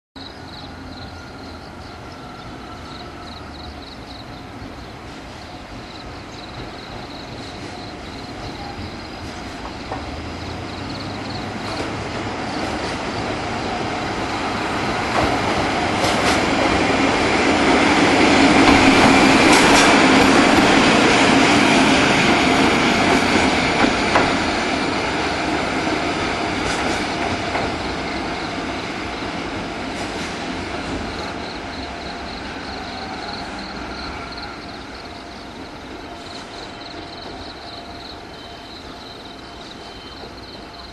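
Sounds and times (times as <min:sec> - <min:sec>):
electric locomotive rumble: 0:00.2 - 0:40.9.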